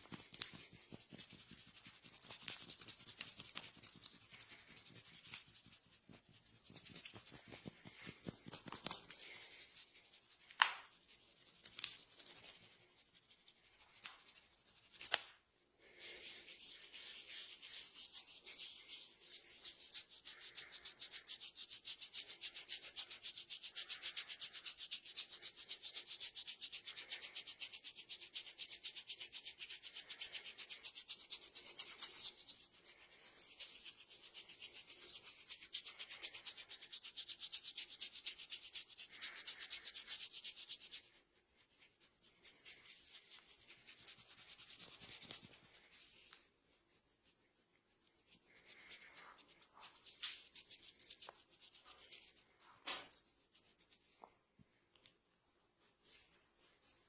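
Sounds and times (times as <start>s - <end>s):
hands rubbing hair: 0.0s - 57.0s.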